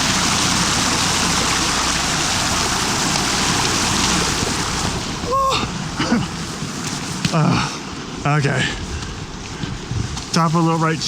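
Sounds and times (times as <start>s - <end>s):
heavy rain falling: 0.0s - 11.0s
stream water rushing: 0.0s - 11.0s.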